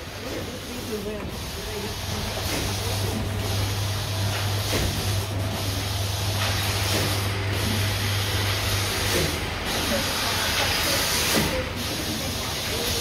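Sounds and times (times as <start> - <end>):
production-line machinery hum: 0.0 - 13.0
machinery hiss: 0.1 - 13.0.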